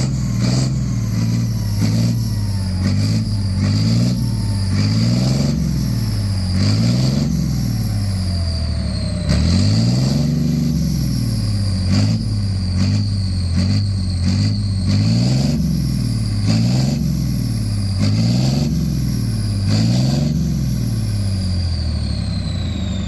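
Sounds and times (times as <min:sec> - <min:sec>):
diesel engine revving: 0:00.0 - 0:23.0
high whine: 0:00.0 - 0:23.0.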